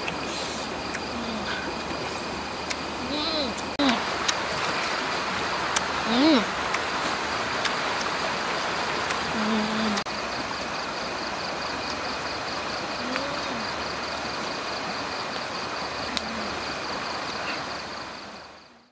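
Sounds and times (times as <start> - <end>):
even hiss: 0.0 - 18.7.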